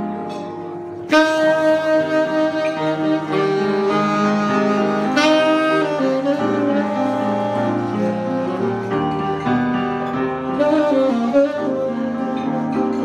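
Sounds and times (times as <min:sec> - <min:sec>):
low accompaniment: 0:00.0 - 0:13.0
tenor saxophone jazz melody: 0:00.0 - 0:13.0.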